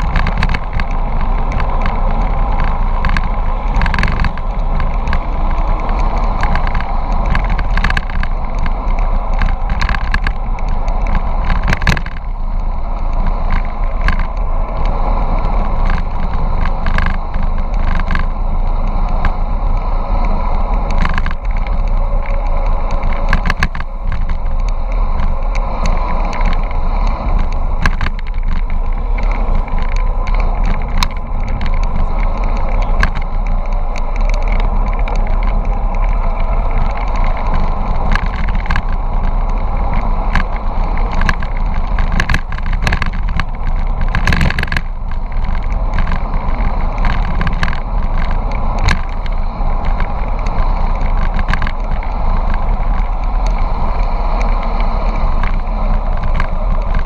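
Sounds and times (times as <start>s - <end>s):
bicycle road noise: 0.0s - 57.0s
clicks and rattles from bumps: 0.0s - 57.0s
wind rumble on microphone: 0.0s - 57.0s.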